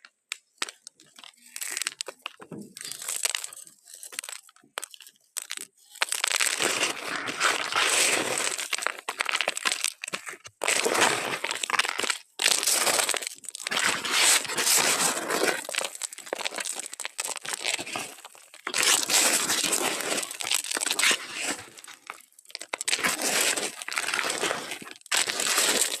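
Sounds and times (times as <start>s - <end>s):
dry crunchy crushing: 0.0s - 26.0s.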